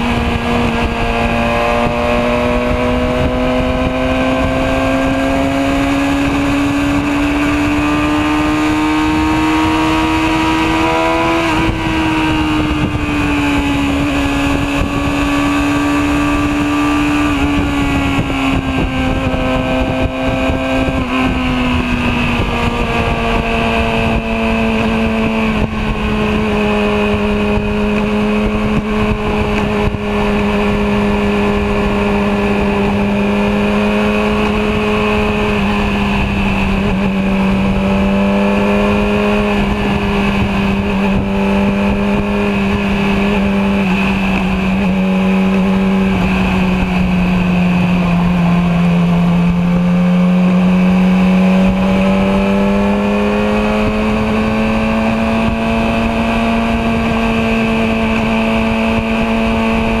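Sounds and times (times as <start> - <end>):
motorcycle engine at highway speed: 0.0 - 60.0.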